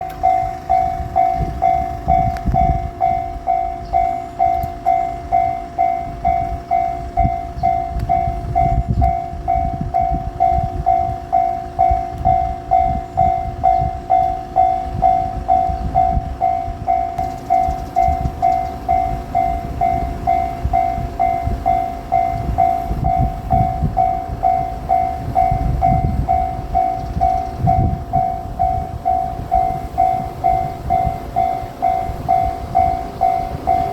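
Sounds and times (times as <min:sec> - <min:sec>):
level crossing warning bell: 0:00.0 - 0:33.9
train passing rumble: 0:00.0 - 0:33.9.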